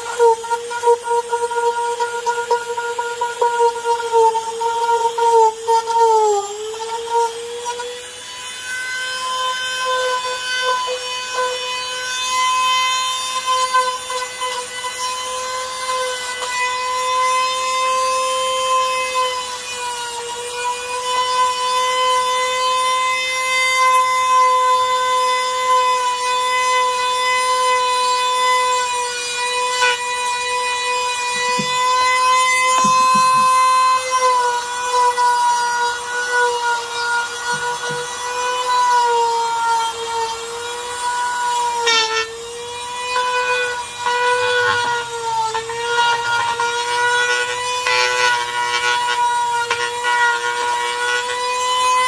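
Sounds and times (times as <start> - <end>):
power tool whining: 0.0 - 52.0.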